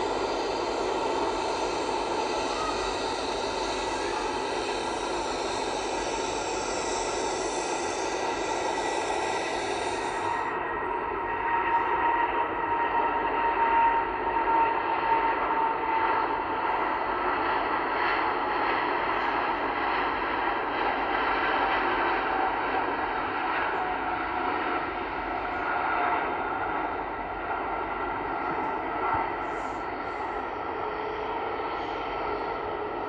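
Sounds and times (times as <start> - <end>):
engine whine: 0.0 - 33.0
jet engines running: 0.0 - 33.0.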